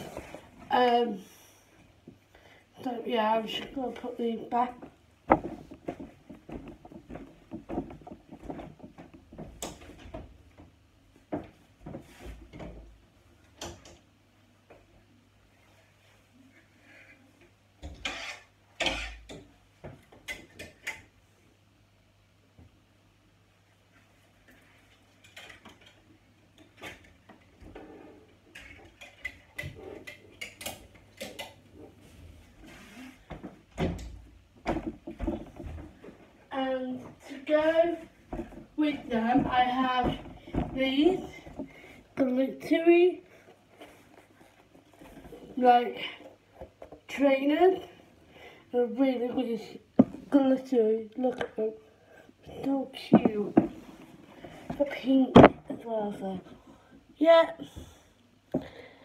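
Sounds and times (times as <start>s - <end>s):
clothes on hangers rustling: 0.0s - 2.2s, 2.8s - 21.2s, 23.8s - 48.2s, 52.6s - 56.6s.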